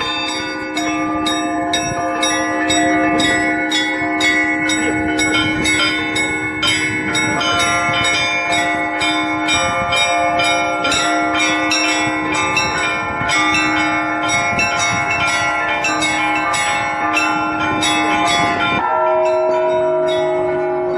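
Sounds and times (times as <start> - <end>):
deep bell humming: 0.0 - 20.9
higher church bells ringing: 0.0 - 20.9
lower church bell: 0.0 - 20.9.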